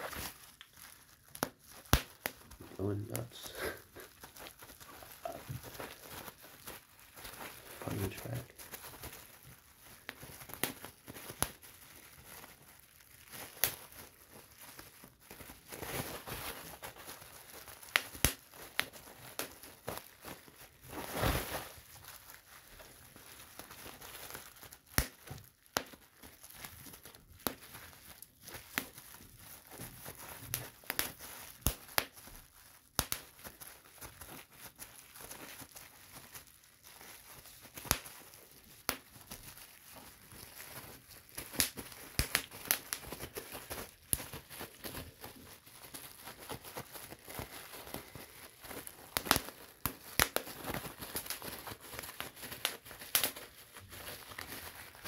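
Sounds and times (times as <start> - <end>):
bubble wrap popping: 0.0 - 55.0
plastic crinkling: 0.0 - 55.0.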